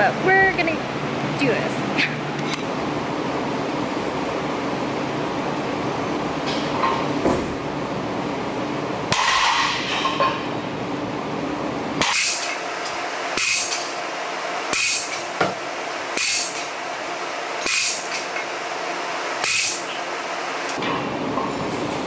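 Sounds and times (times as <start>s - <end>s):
gym background hum: 0.0s - 22.0s.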